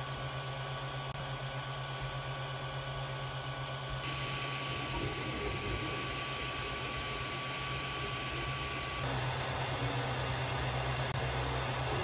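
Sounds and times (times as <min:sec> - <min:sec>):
printer cooling fans whirring: 0:00.0 - 0:12.0
thin steady whine: 0:00.0 - 0:12.0.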